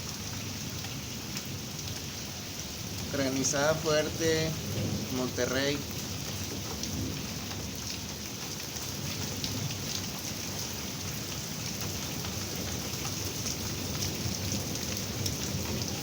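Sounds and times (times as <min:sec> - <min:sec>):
heavy rain rushing: 0:00.0 - 0:16.0.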